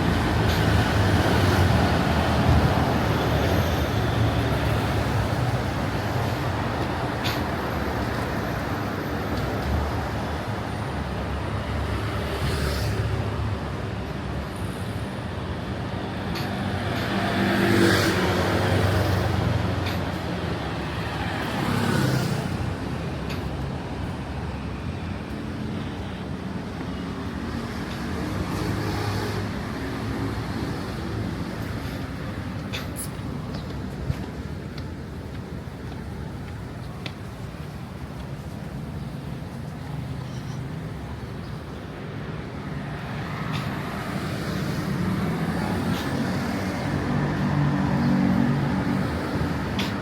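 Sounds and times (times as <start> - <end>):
road traffic passing: 0.0 - 50.0.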